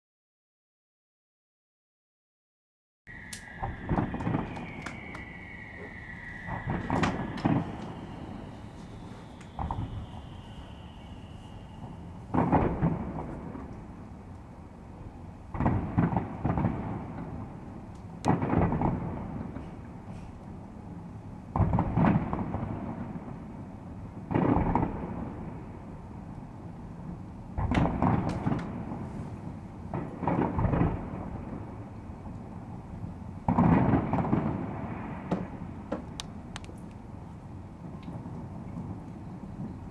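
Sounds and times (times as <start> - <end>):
fireworks booming: 3.1 - 14.3, 15.1 - 20.2, 21.5 - 23.4, 24.2 - 26.1, 26.9 - 39.9.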